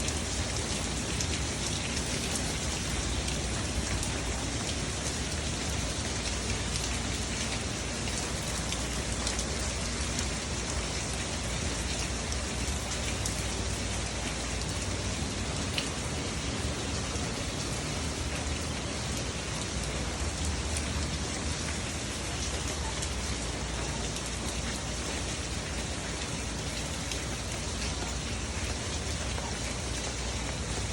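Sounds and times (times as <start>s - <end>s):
rain pattering: 0.0s - 30.9s.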